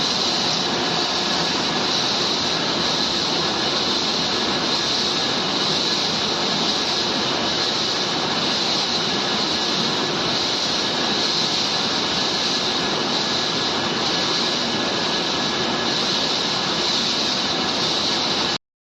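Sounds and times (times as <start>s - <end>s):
pellet machine running: 0.0s - 18.6s
strong hiss: 0.0s - 18.6s.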